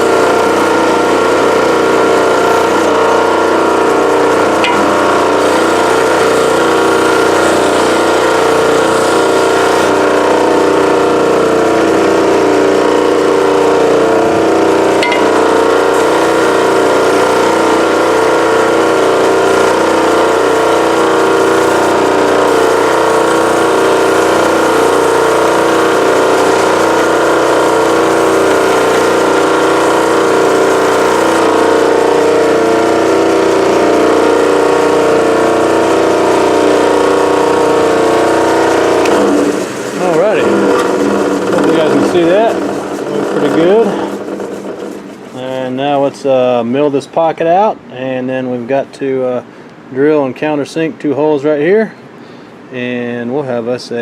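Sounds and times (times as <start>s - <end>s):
belt sander running: 0.0s - 46.2s.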